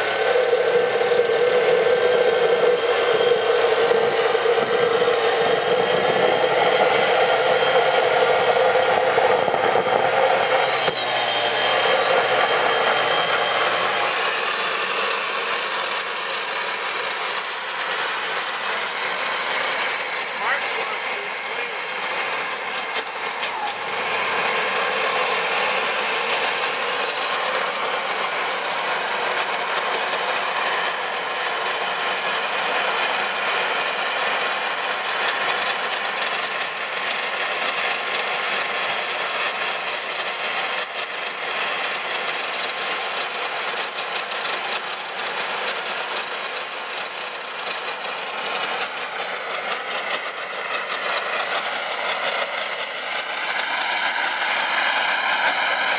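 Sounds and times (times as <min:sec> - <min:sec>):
high piercing whine: 0:00.0 - 0:55.9
jet engine roaring: 0:00.0 - 0:55.9.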